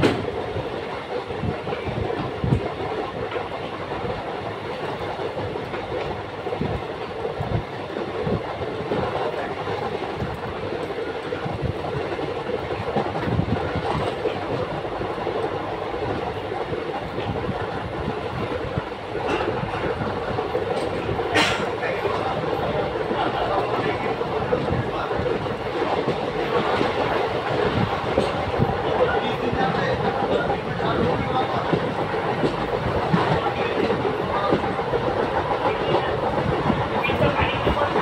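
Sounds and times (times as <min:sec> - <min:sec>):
train running rumble: 0:00.0 - 0:38.0.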